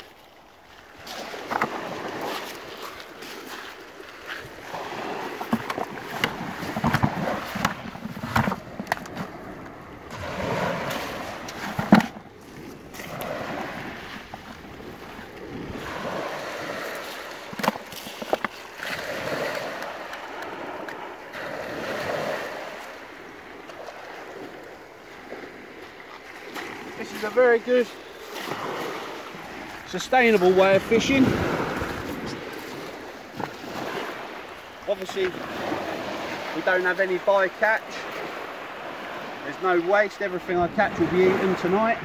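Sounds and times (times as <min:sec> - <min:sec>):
waves washing over shingle: 0:00.0 - 0:42.0.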